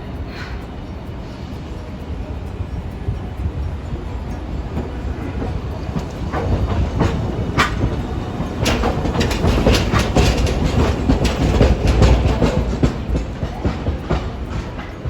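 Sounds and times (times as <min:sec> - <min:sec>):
streetcar rumbling: 0:00.0 - 0:15.0
wheels clacking on rails: 0:00.0 - 0:15.0.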